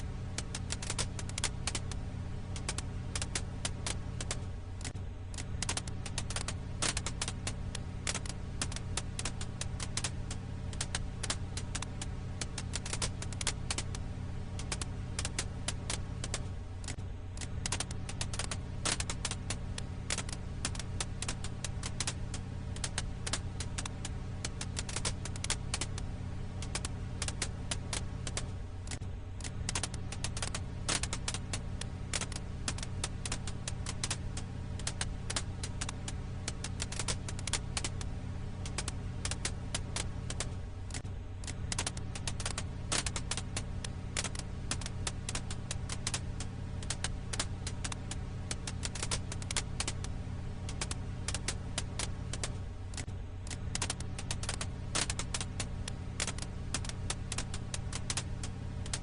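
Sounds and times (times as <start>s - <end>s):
firewood crackling and popping: 0.0s - 59.0s
low rumble: 0.0s - 59.0s.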